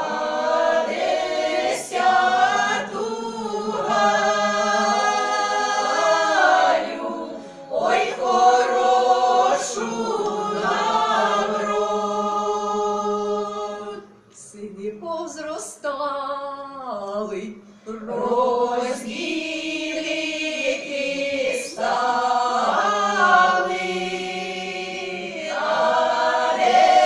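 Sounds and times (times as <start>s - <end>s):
women's choir singing unaccompanied: 0.0s - 14.2s, 17.2s - 27.0s.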